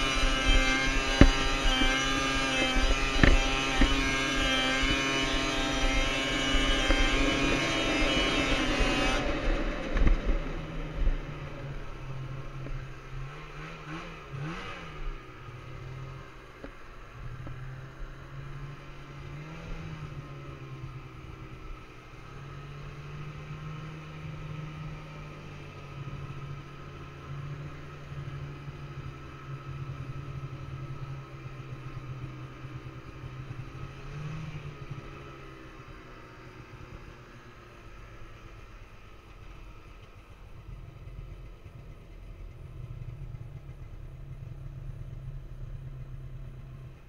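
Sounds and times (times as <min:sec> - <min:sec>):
snowmobile engine running: 0:00.0 - 0:47.0.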